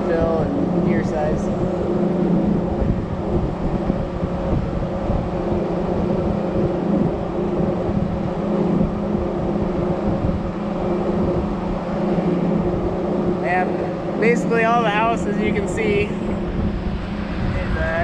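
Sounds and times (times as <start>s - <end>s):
machinery humming: 0.0s - 18.0s
wind rumble on microphone: 0.0s - 18.0s.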